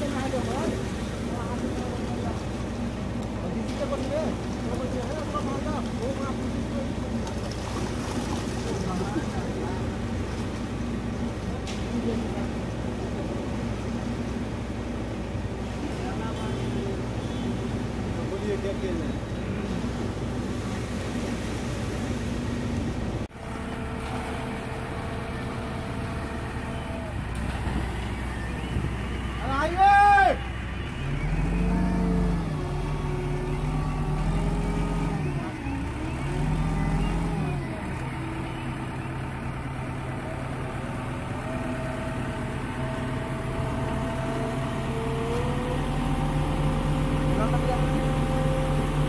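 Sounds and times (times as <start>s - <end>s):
diesel engine running: 0.0s - 49.0s
engine whine: 0.0s - 49.0s.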